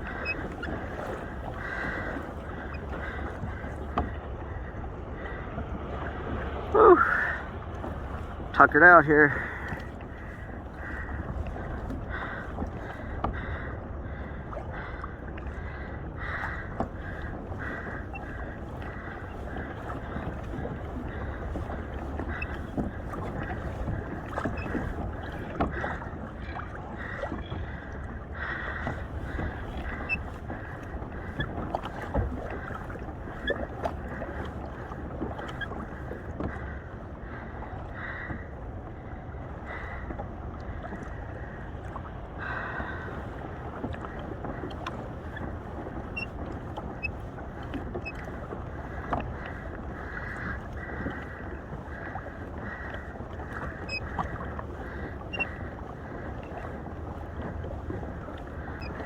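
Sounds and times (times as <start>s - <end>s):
water splashing and sloshing: 0.0s - 59.0s
wind rumbling on microphone: 0.0s - 59.0s.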